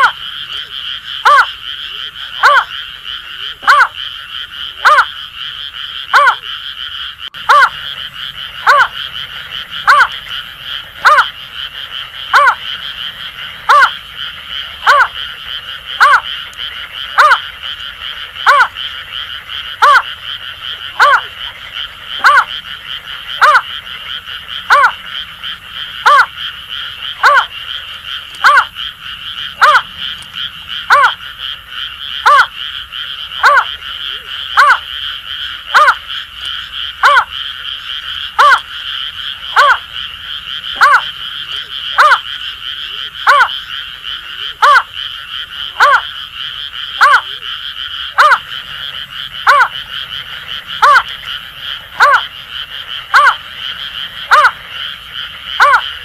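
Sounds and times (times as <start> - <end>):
chorus of frogs calling: 0.0 - 56.0.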